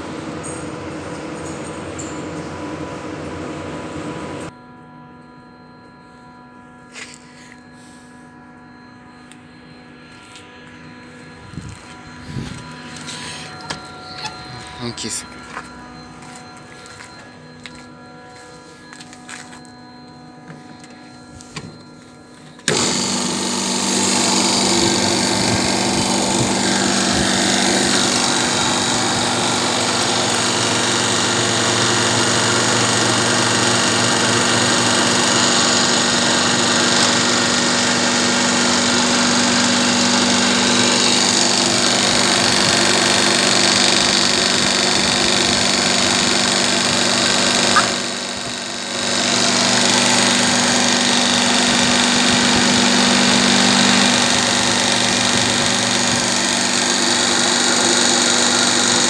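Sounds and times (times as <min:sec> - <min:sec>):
compressor humming: 0:06.6 - 0:59.0.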